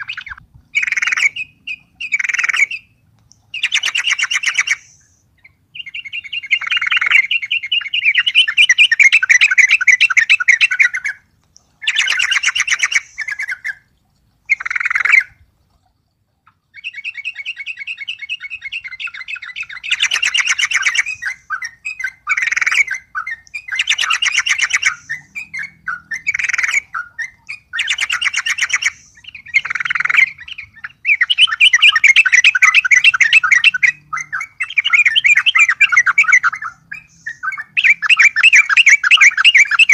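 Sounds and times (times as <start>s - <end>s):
bird singing fast runs of notes: 0.0s - 11.2s, 11.8s - 13.9s, 14.5s - 15.4s, 16.5s - 39.9s.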